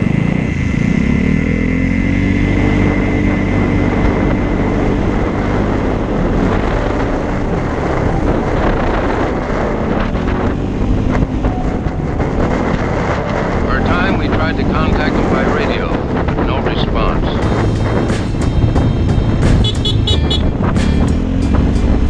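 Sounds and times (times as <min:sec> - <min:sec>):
scooter engine accelerating: 0:00.0 - 0:16.4, 0:17.3 - 0:22.0
wind noise on microphone: 0:02.2 - 0:22.0.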